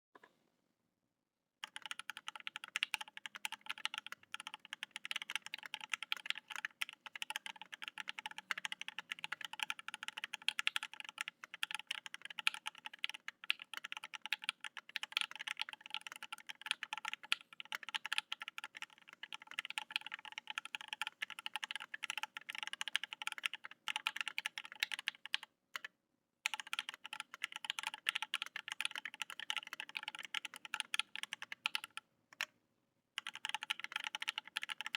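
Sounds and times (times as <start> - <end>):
mechanical keyboard typing: 1.6 - 25.9, 26.5 - 32.5, 33.2 - 34.9.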